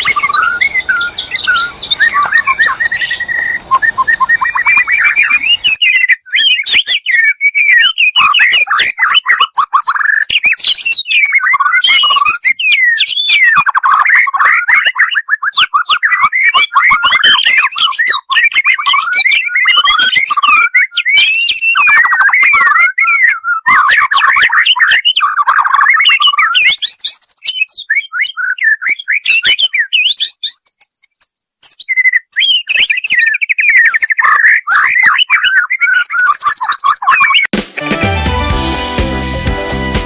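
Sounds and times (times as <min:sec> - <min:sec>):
bird singing whistled phrases: 0:00.0 - 0:37.5.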